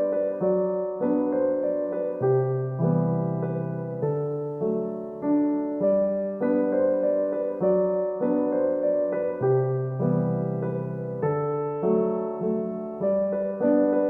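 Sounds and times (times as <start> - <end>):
slow piano melody with chords: 0.0 - 14.0.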